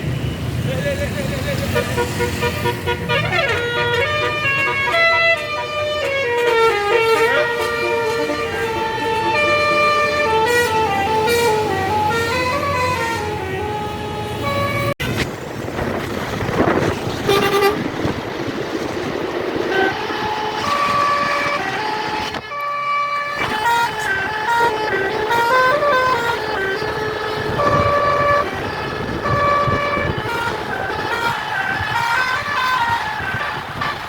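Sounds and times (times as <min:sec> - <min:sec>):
bus horn playing a tune: 0:01.6 - 0:15.3, 0:17.2 - 0:18.1, 0:19.6 - 0:34.0.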